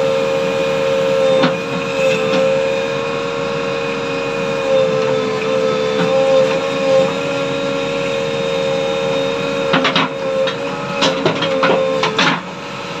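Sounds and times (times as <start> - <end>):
backhoe engine and hydraulics whine: 0.0 - 13.0.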